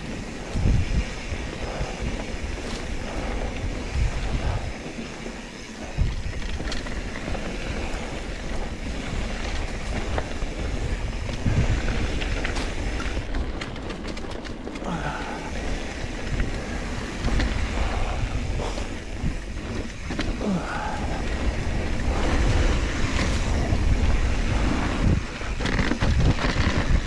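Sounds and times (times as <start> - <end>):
bike rolling and rattling: 0.0 - 27.0
wind buffeting microphone: 0.0 - 27.0.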